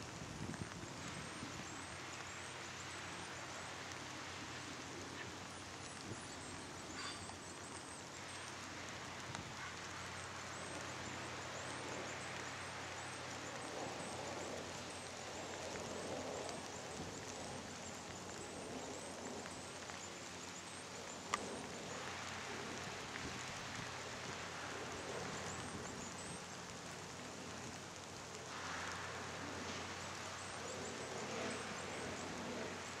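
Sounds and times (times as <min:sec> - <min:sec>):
rain on leaves and ground: 0:00.0 - 0:33.0.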